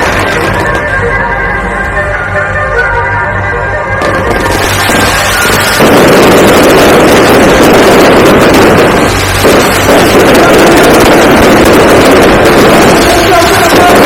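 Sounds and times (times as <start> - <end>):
fireworks crackling: 0.0 - 1.4, 4.0 - 14.0.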